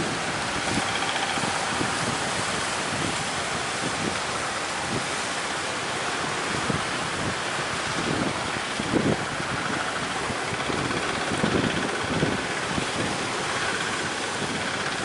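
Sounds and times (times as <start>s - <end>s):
rough sea surf breaking: 0.0s - 15.0s
wind buffeting microphone: 0.0s - 15.0s.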